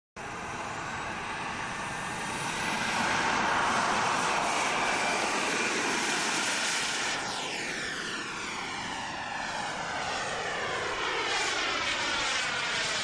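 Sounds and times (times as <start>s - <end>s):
aircraft flying past: 0.2s - 13.0s.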